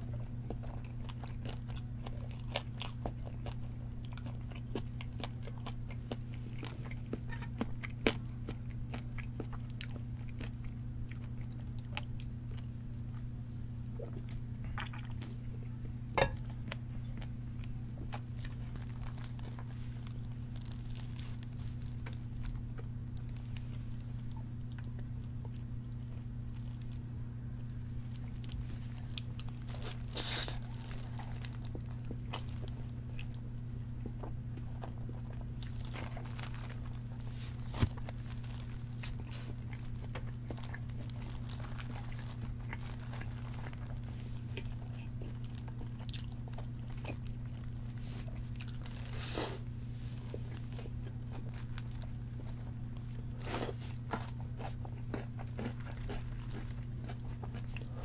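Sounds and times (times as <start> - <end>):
chewing crispy fried chicken: 0.0 - 58.0.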